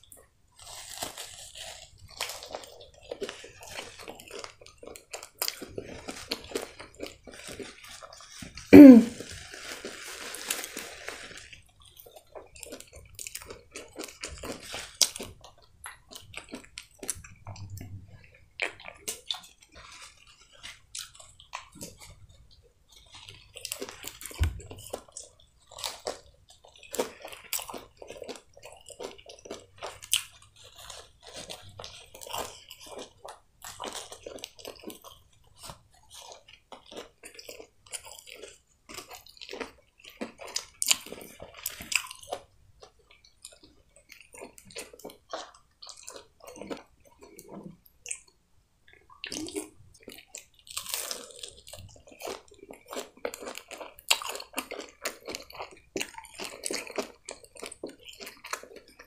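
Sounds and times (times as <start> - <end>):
chewing crispy fried food: 0.0 - 59.0.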